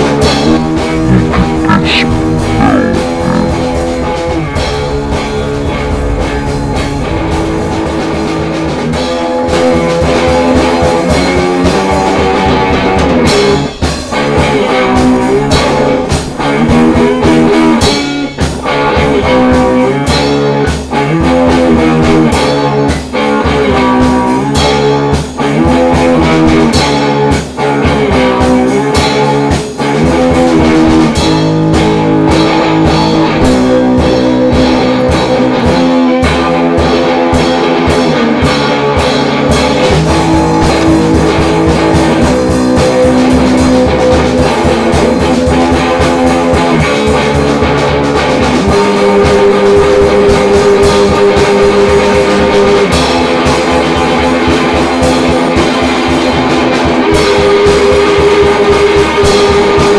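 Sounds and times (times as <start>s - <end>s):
rock music with guitar and drums: 0.0s - 59.9s.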